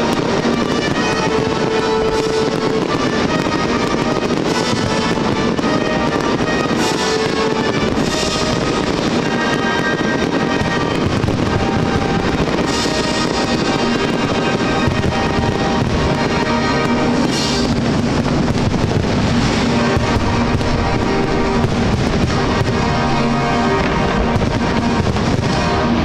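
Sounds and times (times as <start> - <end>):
fireworks popping and crackling: 0.0 - 26.0
loud music playing: 0.0 - 26.0.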